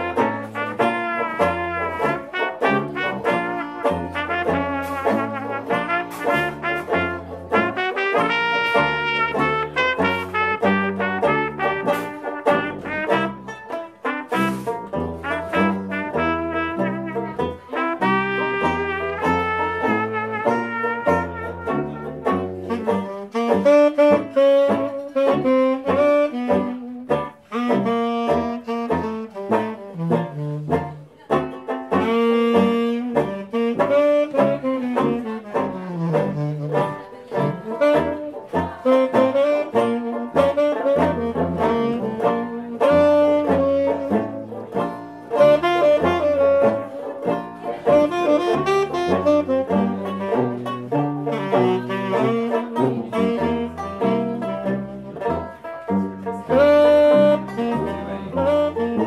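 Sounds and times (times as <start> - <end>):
reed and brass horns: 0.0 - 31.0, 31.8 - 55.7, 56.3 - 59.0
banjo: 0.0 - 59.0
tuba bass line: 0.0 - 59.0
washboard rhythm: 0.0 - 59.0.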